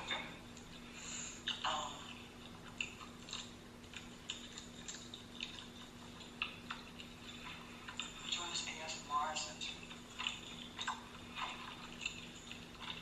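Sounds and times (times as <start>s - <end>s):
steady low hum: 0.0s - 13.0s
person chewing crunchy food: 0.5s - 8.4s, 9.7s - 13.0s.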